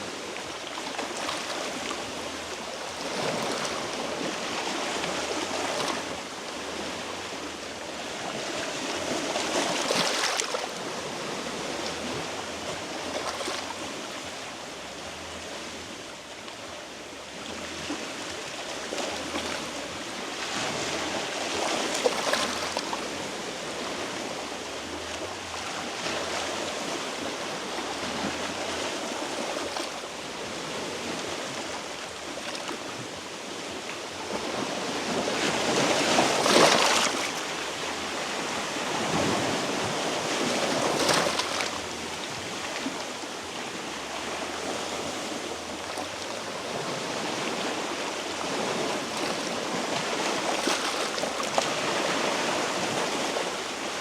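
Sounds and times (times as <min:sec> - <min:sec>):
sea waves washing over rocks: 0:00.0 - 0:14.6, 0:17.8 - 0:54.0.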